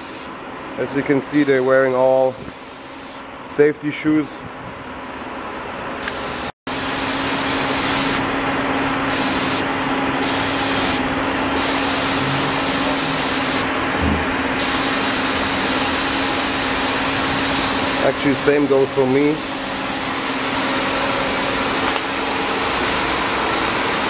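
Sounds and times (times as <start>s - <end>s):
machine whir and hiss: 0.0s - 3.3s, 6.0s - 24.0s.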